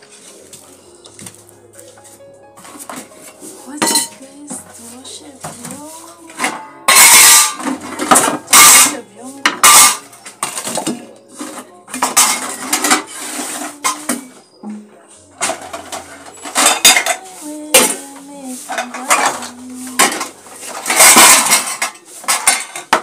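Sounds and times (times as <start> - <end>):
metal dishes clattering in a basin: 2.6 - 23.0.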